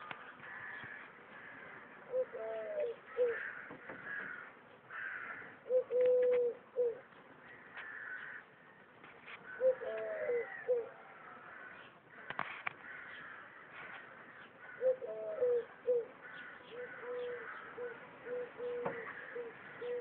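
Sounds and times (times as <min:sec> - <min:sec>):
doves cooing: 0:00.0 - 0:08.4, 0:09.5 - 0:12.2, 0:12.8 - 0:20.0
small birds chirping: 0:00.0 - 0:20.0.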